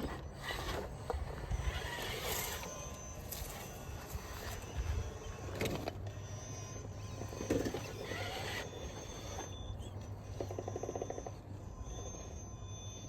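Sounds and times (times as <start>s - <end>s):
toy truck electric motor and gears: 0.0s - 13.0s.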